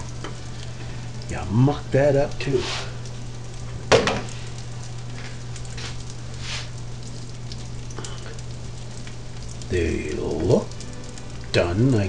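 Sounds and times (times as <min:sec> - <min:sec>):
hot oil sizzling: 0:00.0 - 0:12.0
steady low hum: 0:00.0 - 0:12.0.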